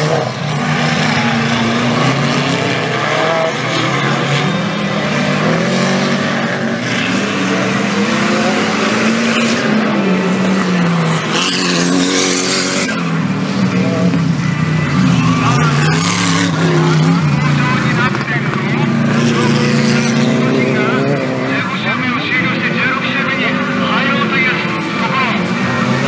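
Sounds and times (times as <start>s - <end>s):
off-road engines revving: 0.0s - 26.0s.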